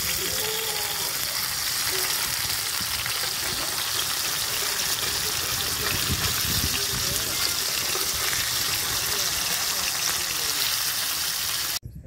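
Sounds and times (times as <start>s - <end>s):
fish sizzling in hot oil: 0.0s - 11.8s.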